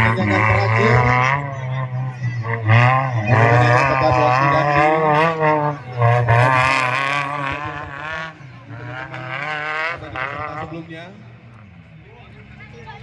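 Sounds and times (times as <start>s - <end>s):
off-road engine revving hard: 0.0s - 11.8s.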